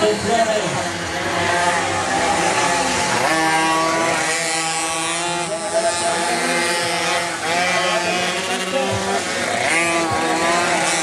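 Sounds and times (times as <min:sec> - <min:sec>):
pocket bike engines buzzing: 0:00.0 - 0:11.0.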